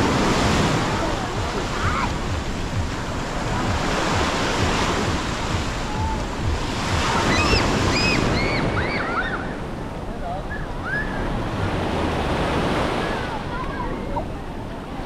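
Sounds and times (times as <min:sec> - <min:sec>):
surf washing onto a beach: 0:00.0 - 0:15.0
wind buffeting the microphone: 0:00.0 - 0:15.0.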